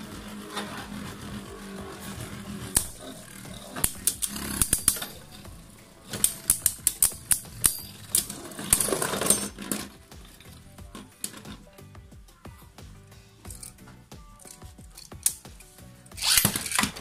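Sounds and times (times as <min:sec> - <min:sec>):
spinning top bursting apart: 0:00.0 - 0:11.6, 0:14.4 - 0:17.0
spinning tops clacking: 0:00.0 - 0:11.7, 0:13.4 - 0:17.0.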